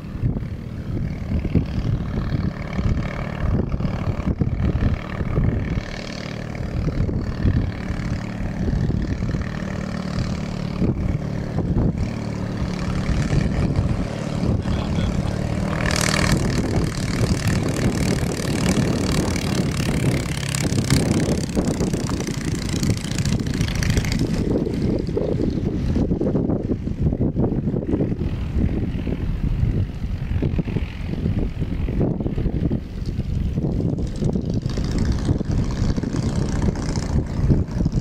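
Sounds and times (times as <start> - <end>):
gust-like rush: 0.0 - 38.0
small aircraft engine running: 0.0 - 38.0
wind noise on microphone: 0.0 - 38.0.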